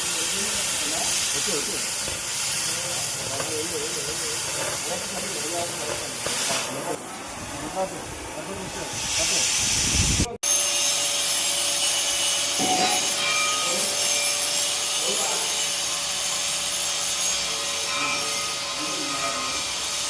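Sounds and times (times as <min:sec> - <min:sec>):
angle grinder grinding steel: 0:00.0 - 0:09.7, 0:10.4 - 0:20.0.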